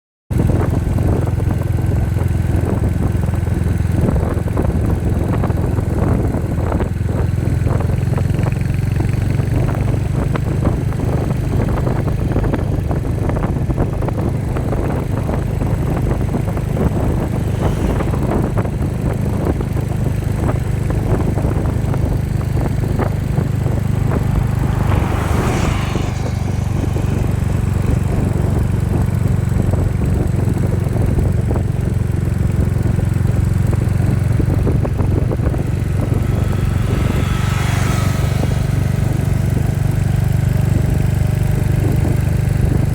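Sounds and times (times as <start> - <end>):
motorcycle engine idling: 0.4 - 42.9.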